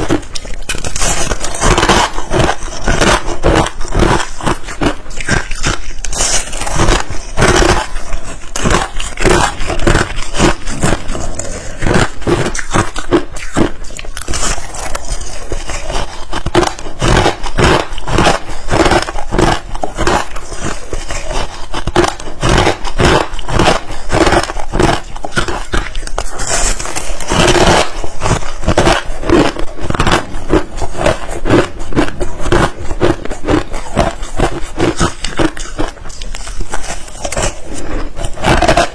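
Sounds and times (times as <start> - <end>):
ice crunching while chewed: 0.0 - 38.9.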